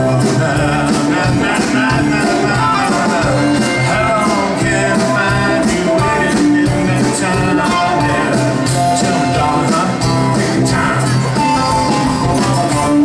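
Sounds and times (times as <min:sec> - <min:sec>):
acoustic guitar: 0:00.0 - 0:13.0
electric bass: 0:00.0 - 0:13.0
electric guitar: 0:00.0 - 0:13.0
keyboard: 0:00.0 - 0:13.0
steady drum beat: 0:00.0 - 0:13.0.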